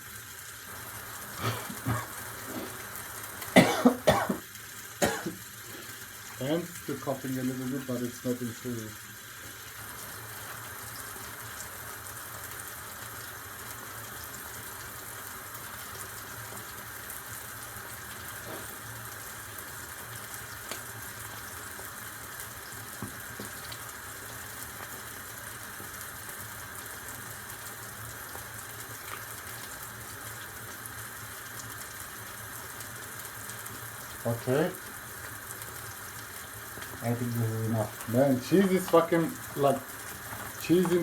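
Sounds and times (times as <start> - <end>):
eggs sizzling in a frying pan: 0.0 - 41.0.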